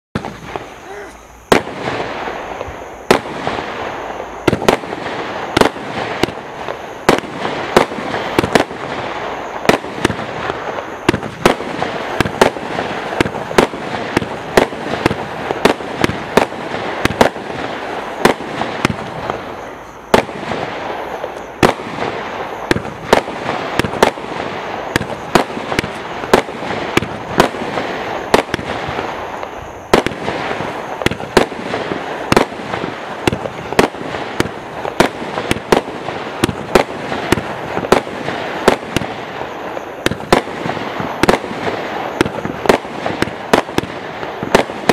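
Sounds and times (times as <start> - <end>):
firework stars crackling: 0.1 - 44.9
firework shots firing: 0.2 - 44.9.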